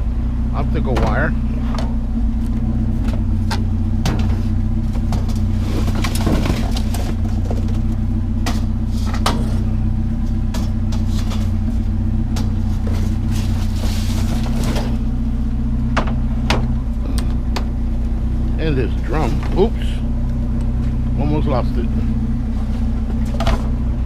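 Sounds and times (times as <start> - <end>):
vehicle engine idling: 0.0 - 24.0
junk knocking and clattering: 0.6 - 24.0.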